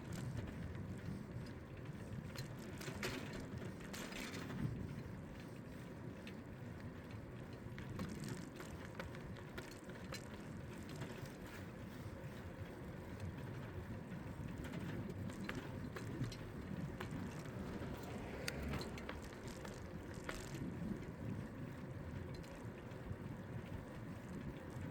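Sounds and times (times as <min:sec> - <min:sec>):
bicycle tyres rumbling: 0:00.0 - 0:24.9
bike clicks and rattles: 0:00.0 - 0:24.9
wind: 0:00.0 - 0:24.9.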